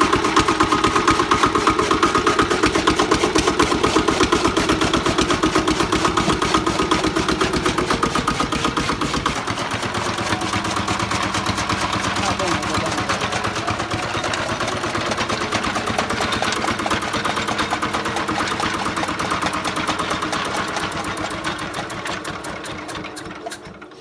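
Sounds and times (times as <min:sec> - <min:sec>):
chaff cutter gears clattering: 0:00.0 - 0:24.0
small diesel engine chugging: 0:00.0 - 0:24.0.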